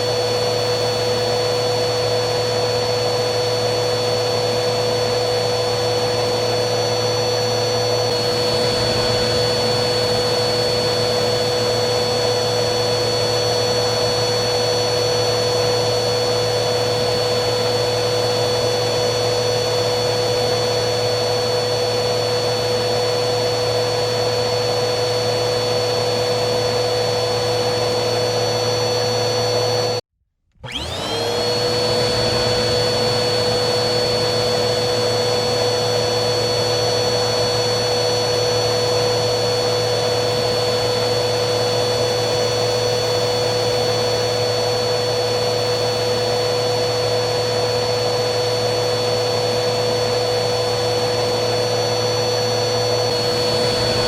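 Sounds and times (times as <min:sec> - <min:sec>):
vacuum cleaner motor whining: 0:00.0 - 0:54.0.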